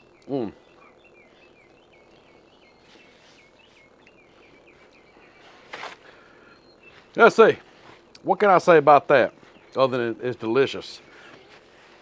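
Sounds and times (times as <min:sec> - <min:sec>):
bird chirping: 0:00.0 - 0:11.5.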